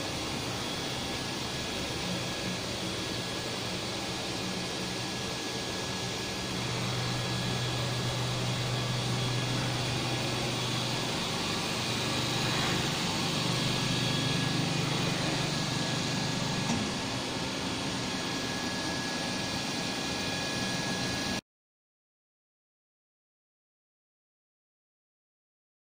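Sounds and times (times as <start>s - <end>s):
machine hum and fan noise: 0.0s - 21.4s.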